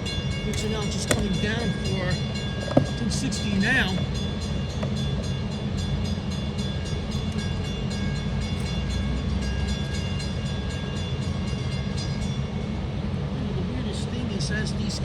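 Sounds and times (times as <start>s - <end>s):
crossing bell ringing: 0.0s - 13.2s.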